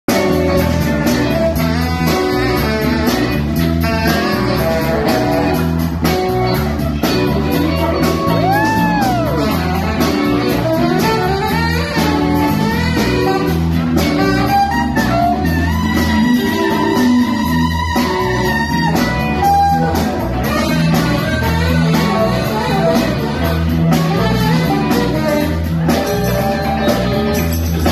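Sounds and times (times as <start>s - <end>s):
funk band with drums and guitar: 0.1s - 27.9s
saxophone solo: 0.1s - 27.9s.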